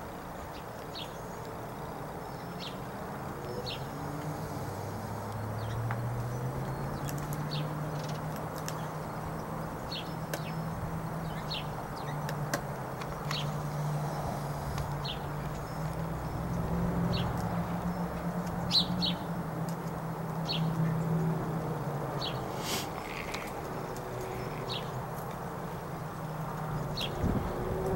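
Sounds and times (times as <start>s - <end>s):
songbird chirping: 0.0s - 27.9s.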